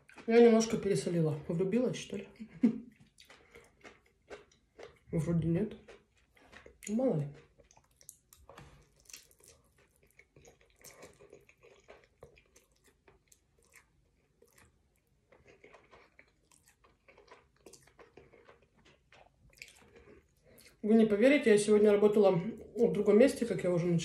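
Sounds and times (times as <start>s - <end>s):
person chewing: 0.0s - 21.2s.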